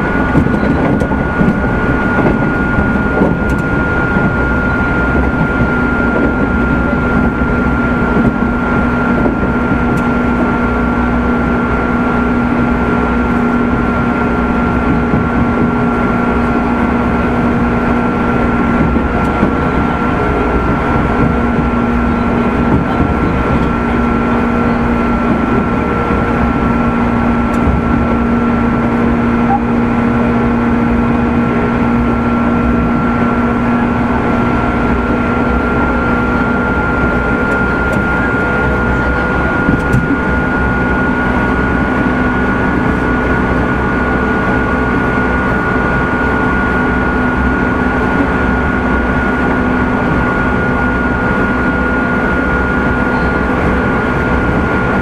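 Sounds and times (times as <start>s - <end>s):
train motor and gear whine: 0.0s - 55.0s
wheels rumbling on rail: 0.0s - 55.0s.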